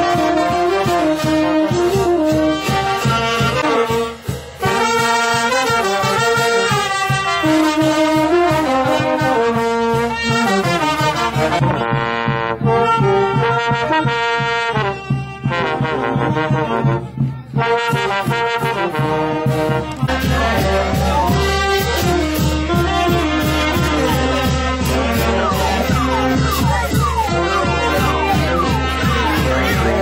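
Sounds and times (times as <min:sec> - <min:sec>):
brass band playing a melody: 0:00.0 - 0:30.0
steady drum beat: 0:00.0 - 0:30.0.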